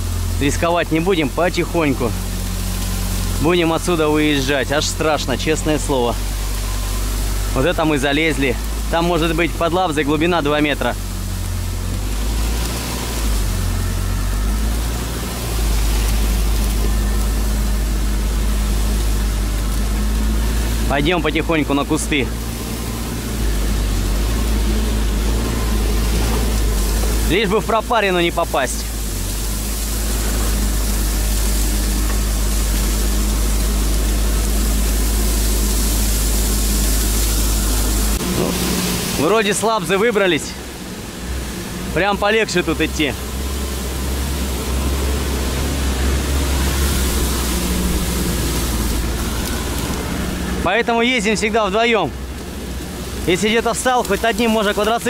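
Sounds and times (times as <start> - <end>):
atv engine running: 0.0 - 55.0
reeds swishing against vehicle: 0.0 - 55.0.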